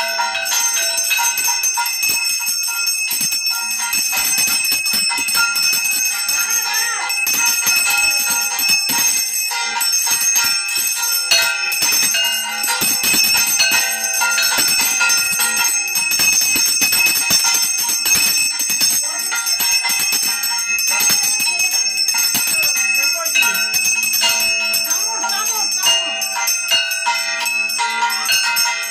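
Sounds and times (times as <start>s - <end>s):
hand bell ringing rapidly: 0.0s - 28.9s.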